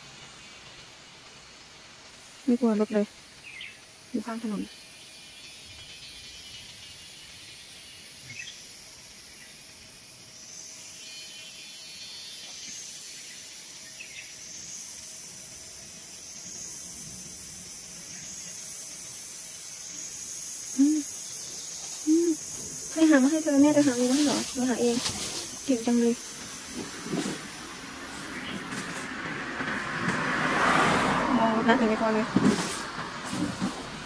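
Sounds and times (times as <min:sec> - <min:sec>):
insect chorus drone: 0:00.0 - 0:34.0.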